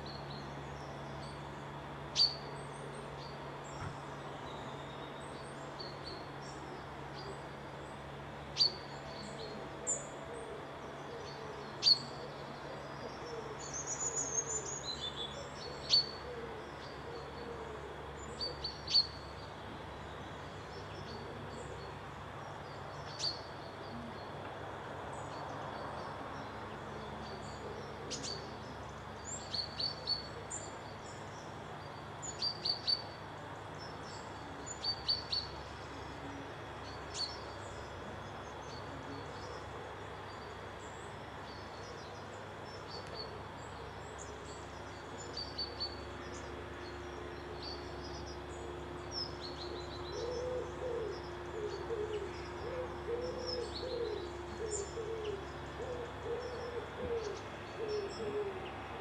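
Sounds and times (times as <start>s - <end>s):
small birds chirping: 10.9s - 17.5s, 18.1s - 59.0s.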